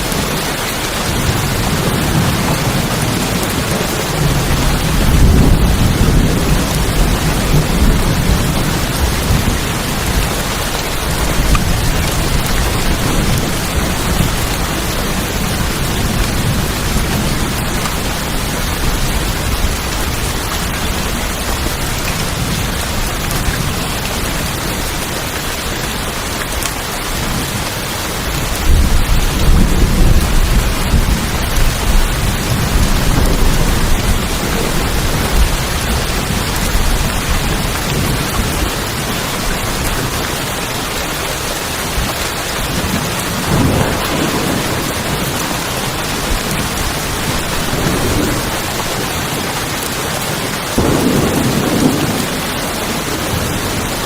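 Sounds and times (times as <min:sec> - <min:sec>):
low rolling thunder: 0:00.0 - 0:25.0, 0:28.3 - 0:40.2, 0:42.7 - 0:49.4, 0:50.7 - 0:54.0
heavy rain on tin roofs: 0:00.0 - 0:54.0.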